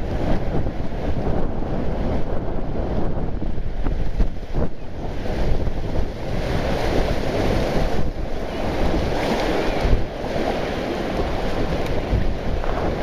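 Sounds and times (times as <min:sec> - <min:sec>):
waves breaking on rocky shore: 0:00.0 - 0:13.0
wind buffeting microphone: 0:00.0 - 0:13.0.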